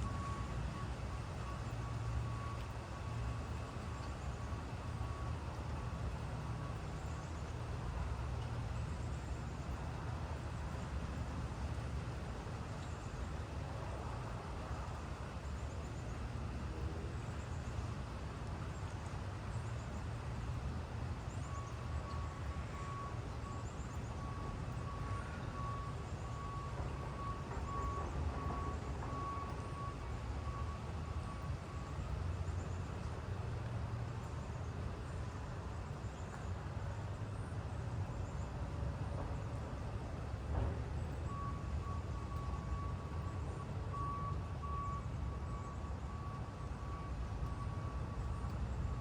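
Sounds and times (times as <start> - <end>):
distant road traffic rumble: 0.0 - 49.0.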